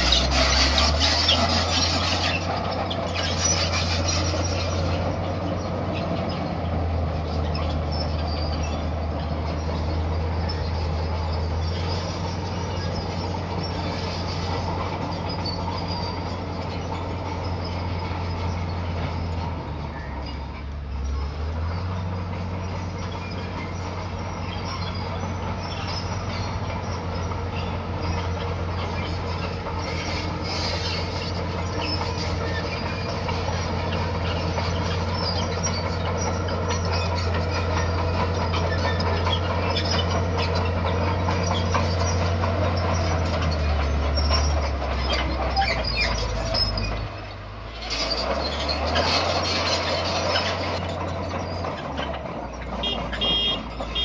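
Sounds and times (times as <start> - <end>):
bulldozer diesel engine under load: 0.0 - 54.0
steel tracks clattering and squealing: 0.0 - 54.0.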